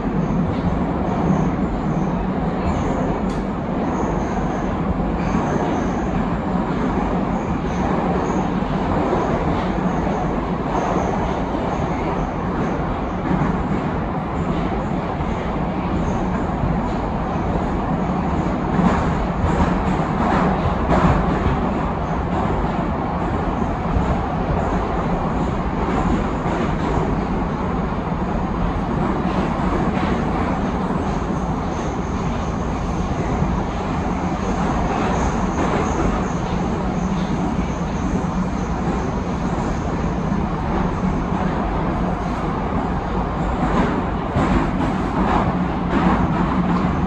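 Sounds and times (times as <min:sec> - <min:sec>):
metro train rumble: 0:00.0 - 0:47.0.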